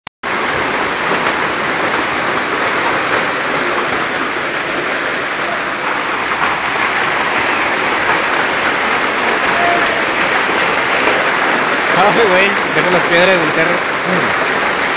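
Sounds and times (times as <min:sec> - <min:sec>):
floodwater rushing: 0:00.2 - 0:14.9.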